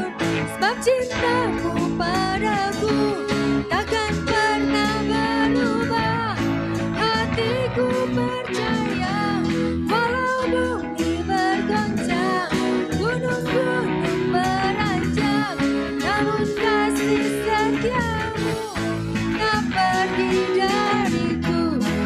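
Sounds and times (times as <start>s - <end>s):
live band playing: 0.0s - 22.0s
woman singing: 0.0s - 22.0s.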